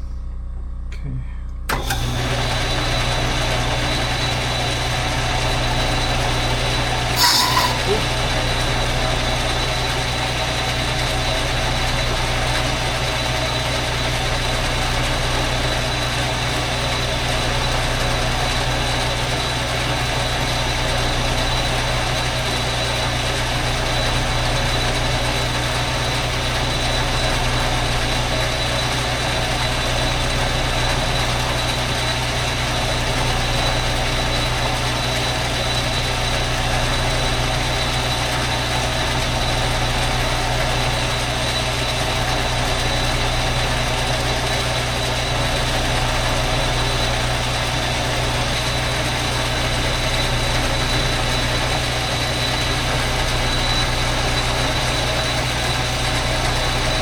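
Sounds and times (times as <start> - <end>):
metal lathe running: 1.7 - 57.0.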